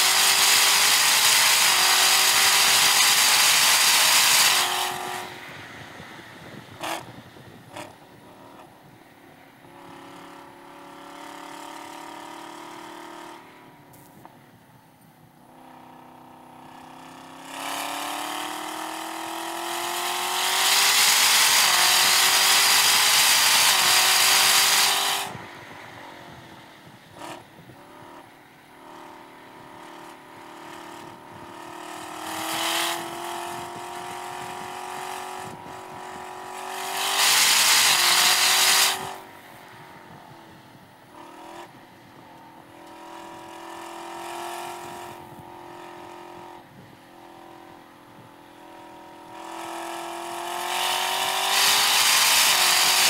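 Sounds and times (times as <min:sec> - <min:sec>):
car engine revving: 0:00.0 - 0:08.8, 0:15.4 - 0:53.0.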